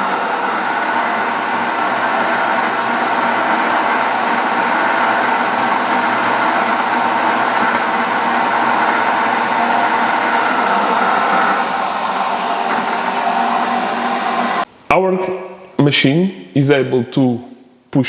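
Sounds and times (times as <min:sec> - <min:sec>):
lathe motor and gear whine: 0:00.0 - 0:14.7.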